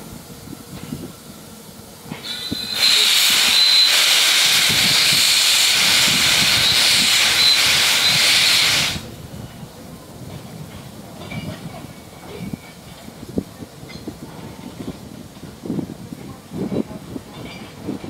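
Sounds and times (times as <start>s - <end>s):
steam locomotive hissing steam: 0.0s - 18.0s.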